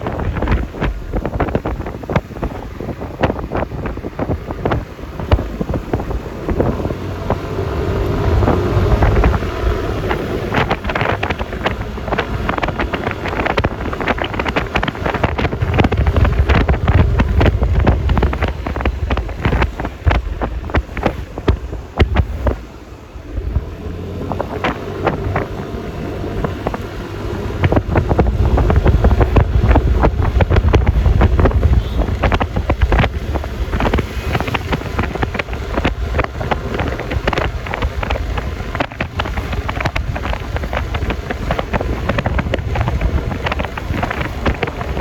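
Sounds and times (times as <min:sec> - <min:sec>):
road and traffic noise: 0:00.0 - 0:45.0
wind buffeting microphone: 0:00.0 - 0:45.0.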